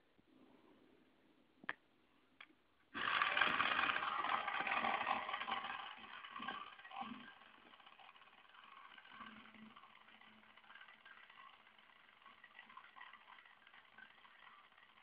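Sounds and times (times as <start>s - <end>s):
toy car motor whirring: 3.0s - 15.0s.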